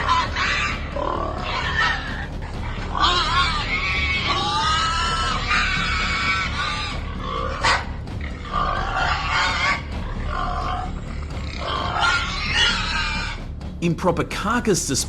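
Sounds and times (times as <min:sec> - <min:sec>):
hogs grunting and squealing: 0:00.0 - 0:13.5.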